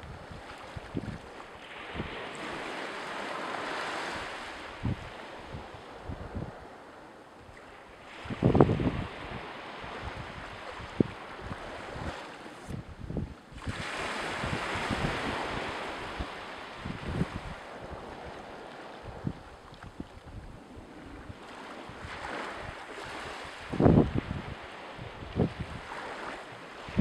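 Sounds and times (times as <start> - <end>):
waves washing on shore: 0.0 - 27.0
wind buffeting microphone: 0.0 - 27.0.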